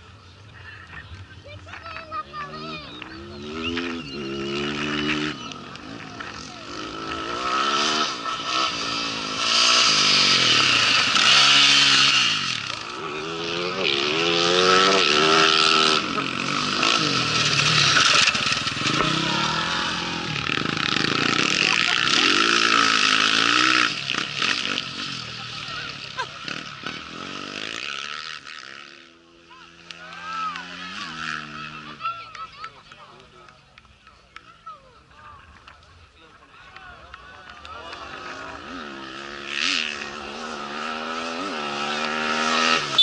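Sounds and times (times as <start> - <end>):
motorcycle engine revving: 0.8 - 32.6, 37.4 - 43.0.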